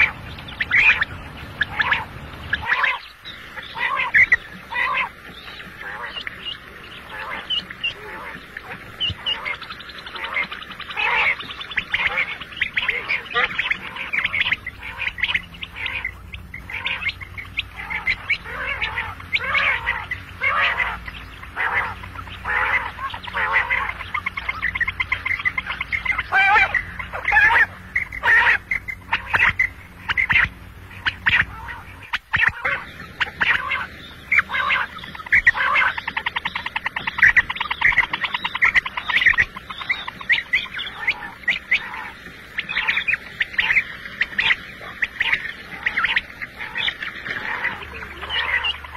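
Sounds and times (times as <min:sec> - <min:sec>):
quail calling: 0:00.0 - 0:48.9.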